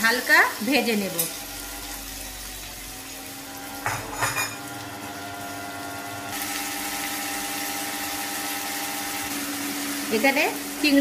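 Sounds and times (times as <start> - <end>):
prawns sizzling in hot oil: 0.0 - 11.0
motor hum: 0.6 - 11.0.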